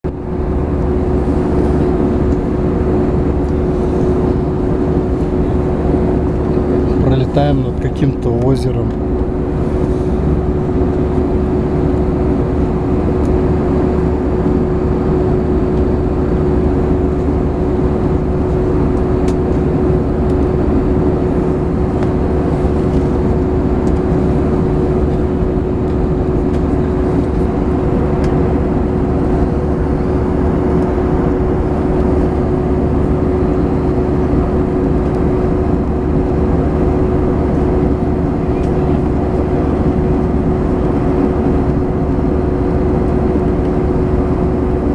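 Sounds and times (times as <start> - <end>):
airliner cabin engine rumble: 0.0 - 44.9
steady humming tone: 0.1 - 44.9.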